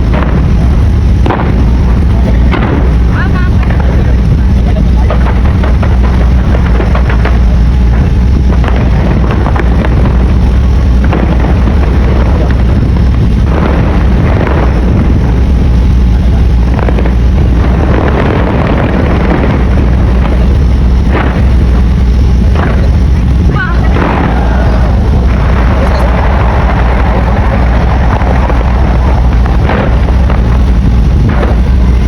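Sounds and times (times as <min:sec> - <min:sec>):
deep rumble: 0:00.0 - 0:32.0
fireworks booming: 0:00.0 - 0:32.0
sharp firework bangs: 0:00.0 - 0:32.0.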